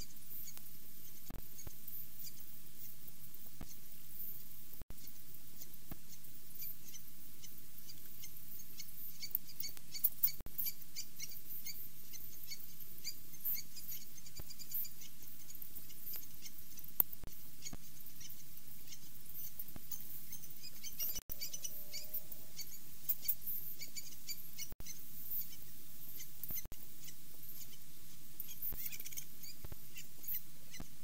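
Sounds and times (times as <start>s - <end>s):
faint low hum: 0.0s - 31.0s
small birds chirping: 0.0s - 31.0s.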